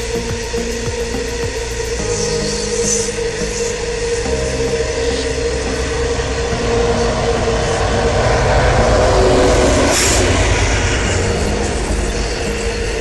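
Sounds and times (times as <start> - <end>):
diesel locomotive engine drone: 0.0 - 13.0
wagons rumbling on rails: 0.0 - 13.0.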